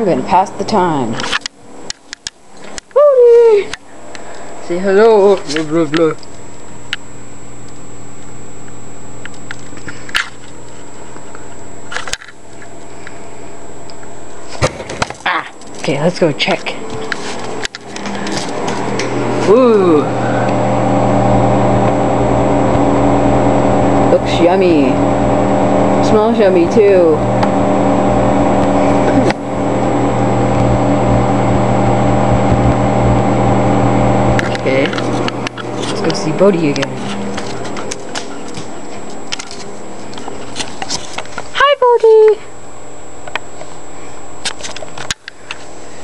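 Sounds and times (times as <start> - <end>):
microwave oven humming: 0.0 - 46.0.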